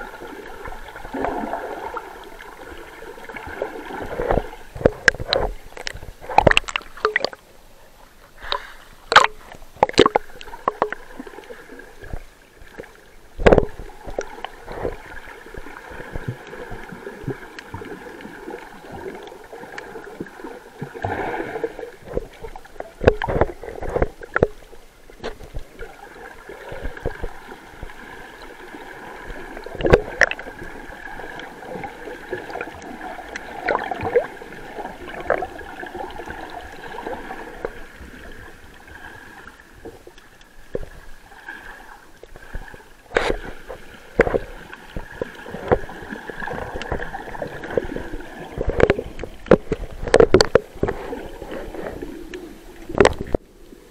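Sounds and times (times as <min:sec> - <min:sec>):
water sloshing and gurgling: 0:00.0 - 0:53.9.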